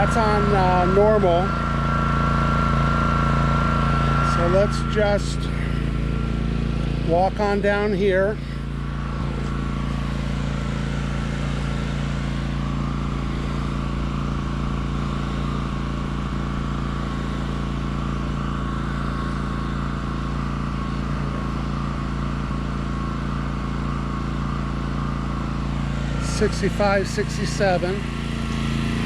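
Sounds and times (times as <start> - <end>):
generator engine hum: 0.0 - 29.0.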